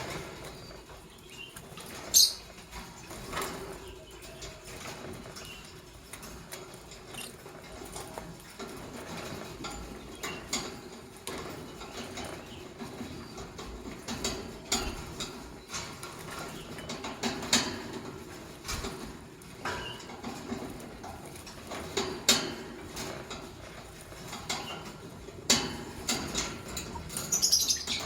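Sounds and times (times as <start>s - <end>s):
birds clicking and scratching: 0.0s - 28.0s.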